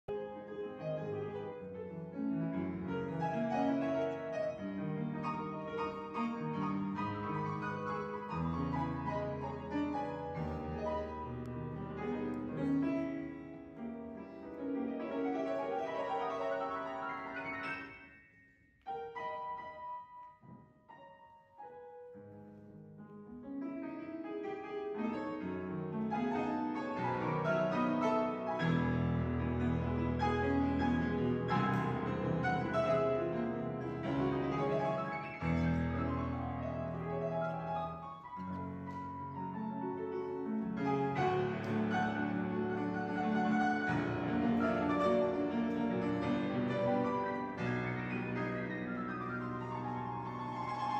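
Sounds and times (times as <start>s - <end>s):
solo piano music: 0.1s - 50.9s.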